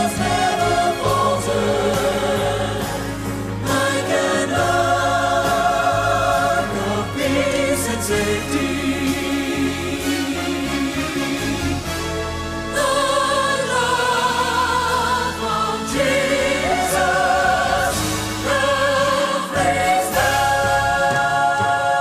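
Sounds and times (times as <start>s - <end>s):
low instrumental accompaniment: 0.0s - 22.0s
vocal group singing in harmony: 0.0s - 22.0s.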